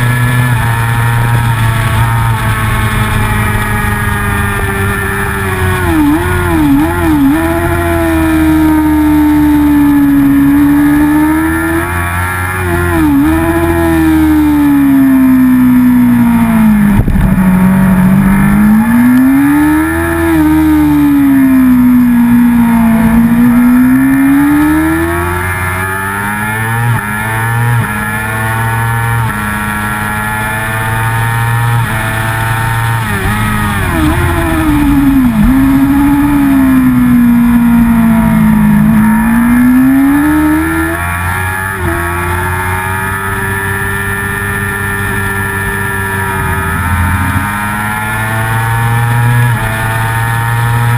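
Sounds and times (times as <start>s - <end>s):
racing motorcycle engine: 0.0s - 50.9s.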